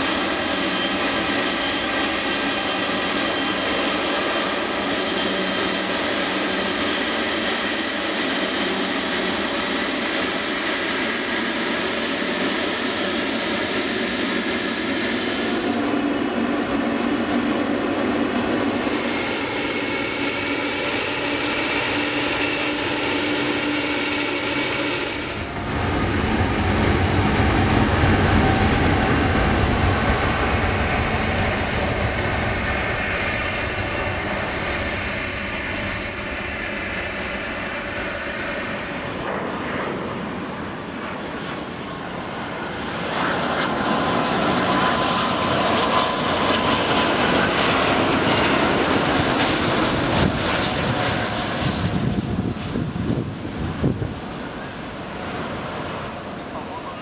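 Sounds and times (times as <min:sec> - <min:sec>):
jet engine whine: 0:00.0 - 0:57.0
jet engines rumbling: 0:00.0 - 0:57.0.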